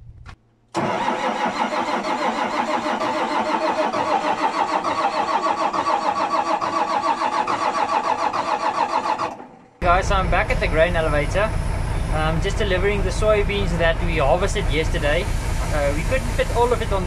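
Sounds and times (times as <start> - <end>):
diesel tractor engine starting: 0.7 - 17.0.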